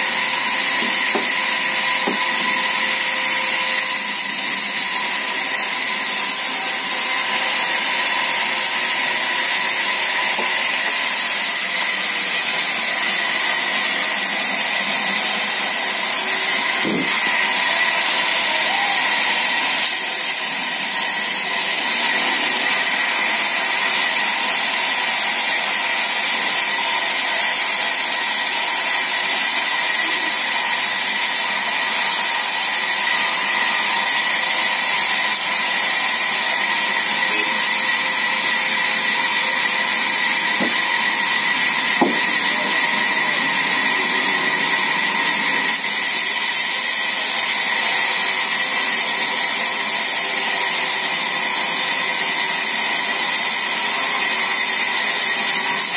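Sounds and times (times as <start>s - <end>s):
band saw cutting log: 0.0s - 55.9s.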